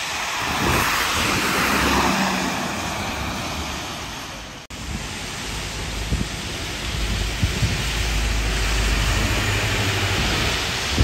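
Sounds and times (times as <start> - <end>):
bus engine rumble: 0.0 - 11.0
tyres hissing on wet road: 0.0 - 11.0.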